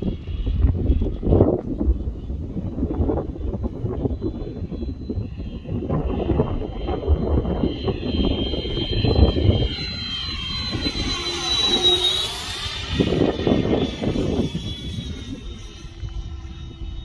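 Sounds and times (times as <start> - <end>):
model jet whine flying past: 0.0 - 17.0
wind rumble on microphone: 0.0 - 17.0.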